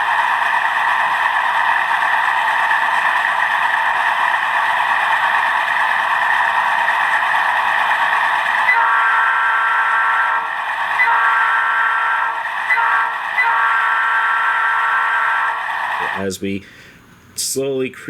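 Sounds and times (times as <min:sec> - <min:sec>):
diesel engine sound from small speaker: 0:00.0 - 0:14.9, 0:16.0 - 0:16.6.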